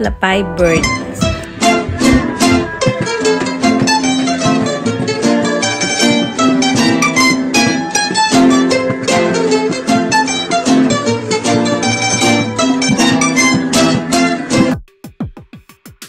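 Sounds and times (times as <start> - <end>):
plucked string instrument music: 0.0 - 14.8.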